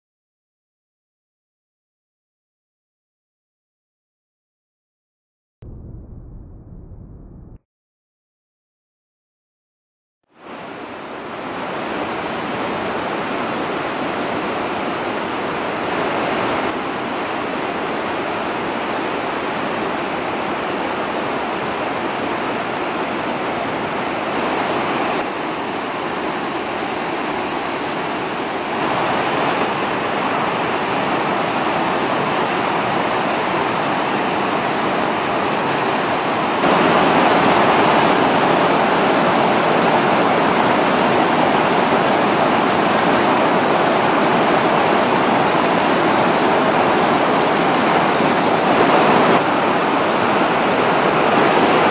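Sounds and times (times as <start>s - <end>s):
rushing river water: 10.3s - 51.9s.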